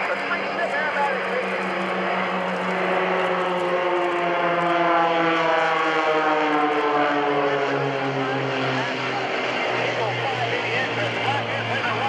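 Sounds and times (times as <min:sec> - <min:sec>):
propeller planes droning past: 0:00.0 - 0:12.0.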